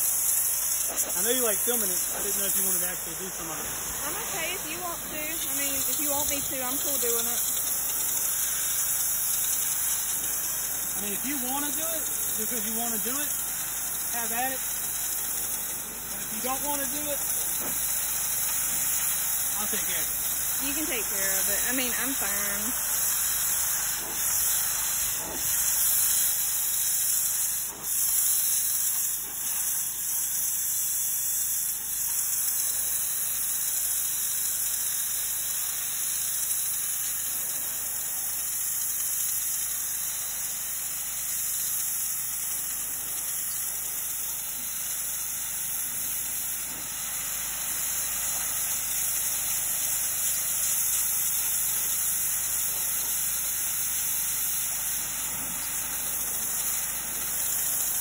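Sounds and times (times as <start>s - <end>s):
pressure washer spray hiss: 0.0s - 58.0s.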